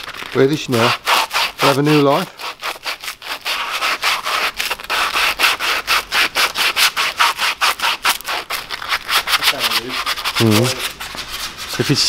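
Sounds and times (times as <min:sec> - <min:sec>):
sandpaper rasping on wood: 0:00.3 - 0:12.0.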